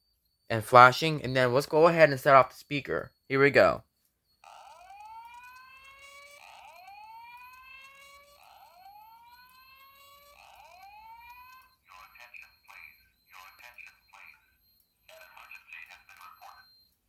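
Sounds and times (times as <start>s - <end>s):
fire alarm whoop tone: 0.5s - 17.0s.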